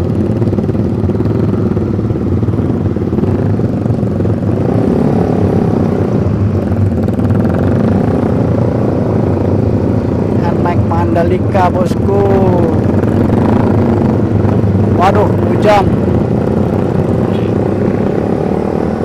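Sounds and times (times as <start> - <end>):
motorcycle engine running: 0.0 - 19.0
other motorcycles: 0.0 - 19.0.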